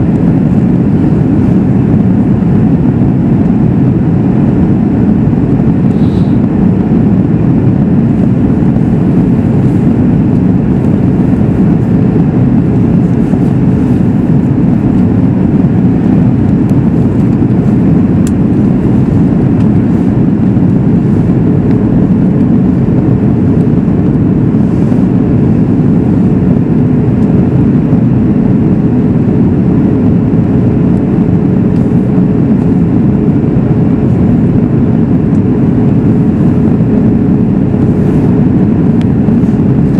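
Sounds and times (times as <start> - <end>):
faint steady hum: 0.0 - 39.9
jet engines droning: 0.0 - 39.9
rush of airflow: 0.0 - 39.9.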